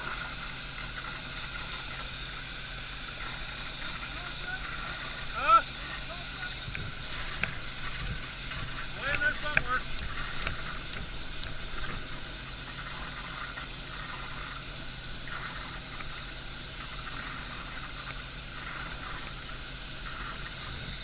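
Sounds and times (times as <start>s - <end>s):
low engine hum: 0.0s - 21.0s
rushing water: 0.0s - 21.0s.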